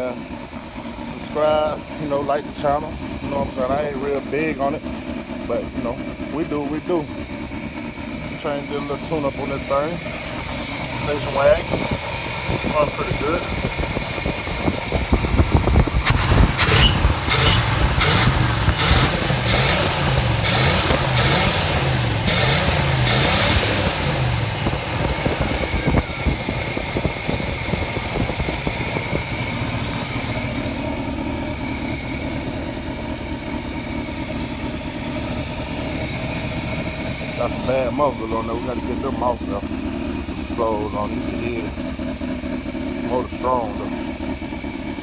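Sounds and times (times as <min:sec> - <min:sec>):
car engine revving: 0:00.0 - 0:45.0
loud engine idling: 0:00.0 - 0:45.0.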